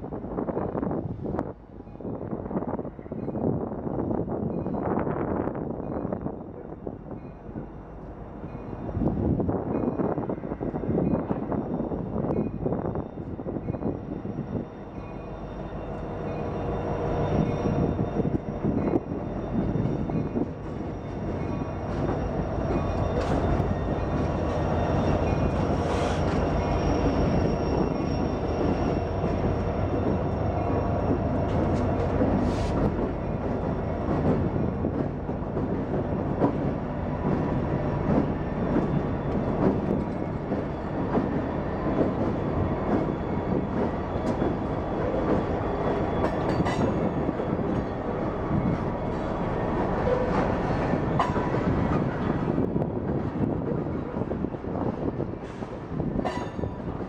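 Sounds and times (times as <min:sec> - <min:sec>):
train wheels rumbling on rails: 0:00.0 - 0:57.0
locomotive engines droning: 0:06.1 - 0:57.0.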